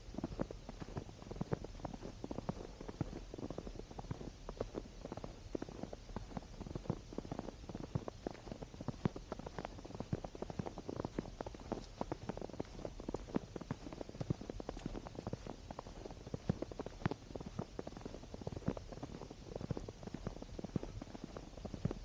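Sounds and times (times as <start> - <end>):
footsteps crunching through snow: 0.2 - 22.0.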